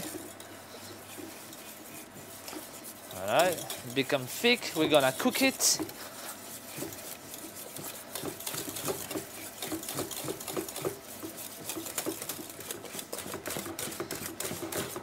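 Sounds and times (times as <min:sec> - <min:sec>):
whisk scraping and tapping pot: 0:00.0 - 0:15.0.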